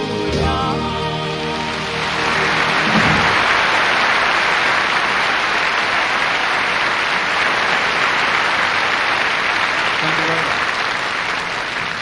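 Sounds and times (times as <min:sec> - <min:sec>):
audience applauding: 0:01.2 - 0:12.0.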